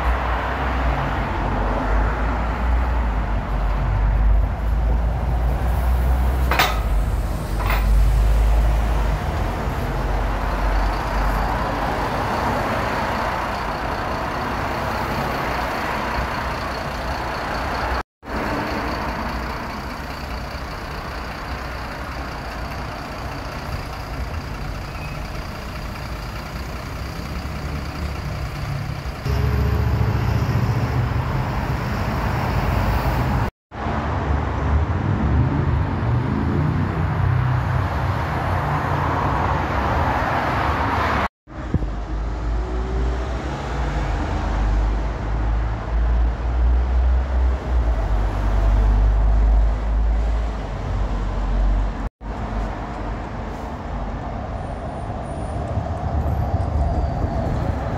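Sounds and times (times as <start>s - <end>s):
buses passing: 0.0s - 57.9s
traffic: 0.0s - 57.9s.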